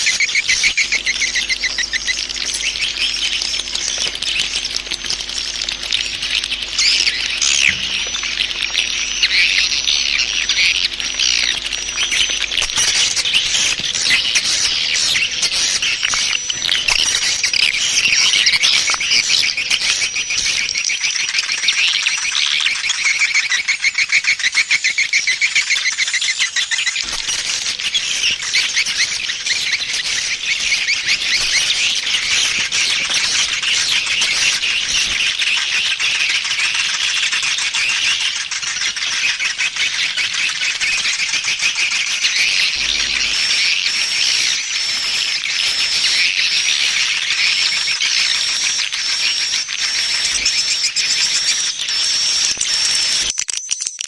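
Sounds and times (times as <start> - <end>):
repeating high chirp: 0.0 - 22.4, 25.2 - 36.0, 38.8 - 53.3
swiftlets twittering: 0.0 - 53.4.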